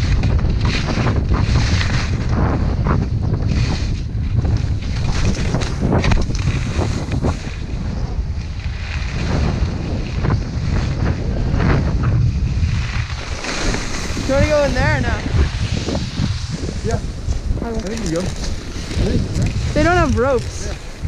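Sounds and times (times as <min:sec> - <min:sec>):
skis scraping over snow: 0:00.0 - 0:21.0
wind rumbling on microphone: 0:00.0 - 0:21.0.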